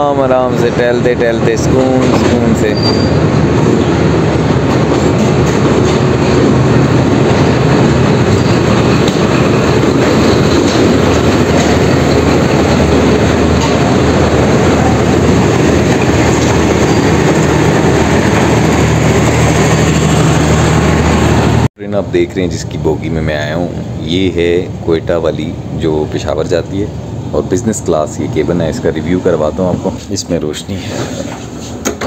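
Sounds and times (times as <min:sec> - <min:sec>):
passenger train running: 0:00.0 - 0:32.0.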